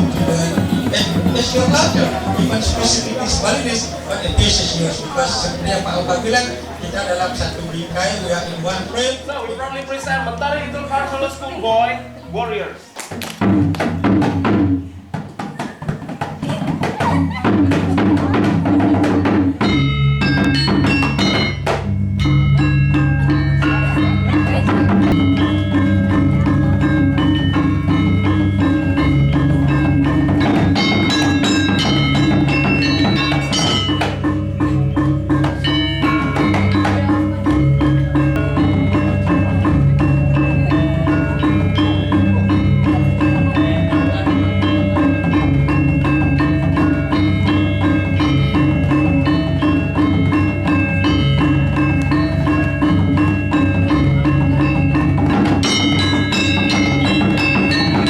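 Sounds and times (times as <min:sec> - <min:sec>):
metallophone notes: 0:00.0 - 0:58.0.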